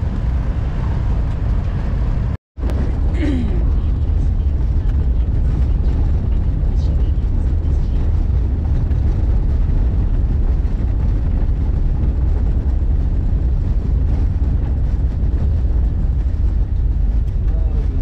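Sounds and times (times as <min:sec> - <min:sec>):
vehicle interior driving rumble: 0:00.0 - 0:18.0.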